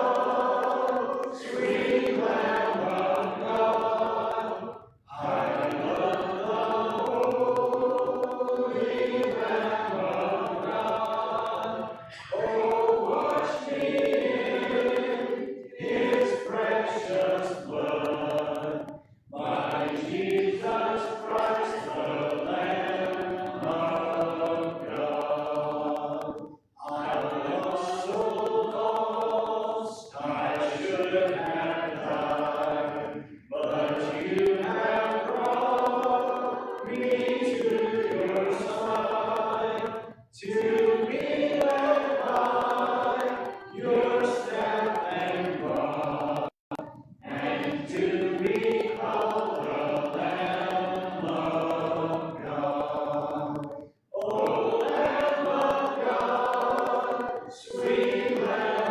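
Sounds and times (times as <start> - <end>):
congregation singing a hymn: 0.0 - 58.9.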